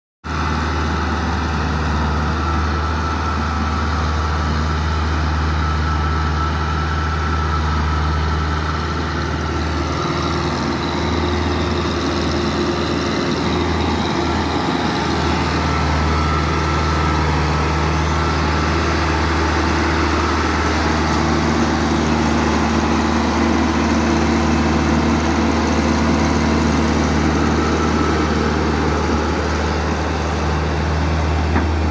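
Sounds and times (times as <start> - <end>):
diesel tractor engine under load: 0.2 - 31.9.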